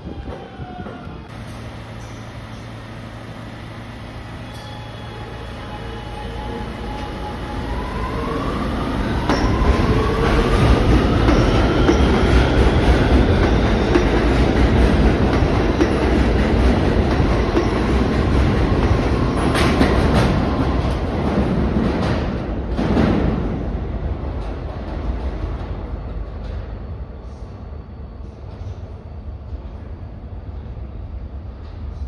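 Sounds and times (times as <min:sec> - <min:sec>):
wheels rumbling on rail: 0:00.0 - 0:27.6
subway train propulsion whine: 0:00.0 - 0:32.0.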